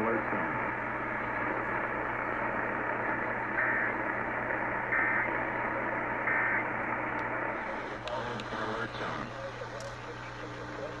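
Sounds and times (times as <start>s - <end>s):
radio static hiss: 0.0s - 11.0s
warbling data bursts: 0.0s - 11.0s.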